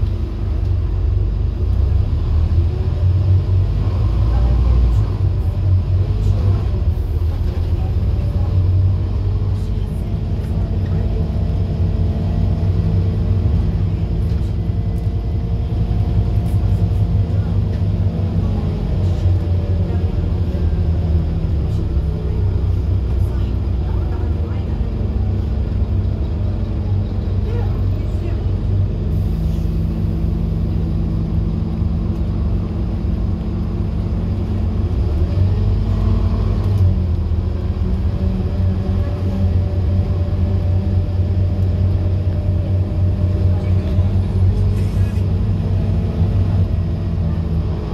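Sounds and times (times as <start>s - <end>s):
bus engine droning: 0.0s - 47.9s
road rumble: 0.0s - 47.9s.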